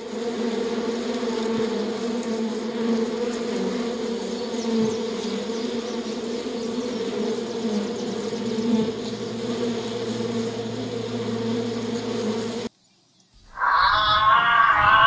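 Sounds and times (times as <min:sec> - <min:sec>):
honeybees buzzing: 0:00.0 - 0:12.7, 0:13.6 - 0:15.0.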